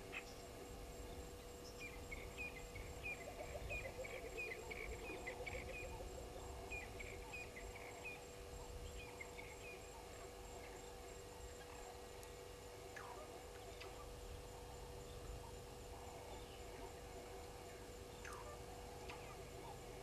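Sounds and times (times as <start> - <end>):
crickets chirping: 0.0 - 20.0
low steady hum: 0.0 - 20.0.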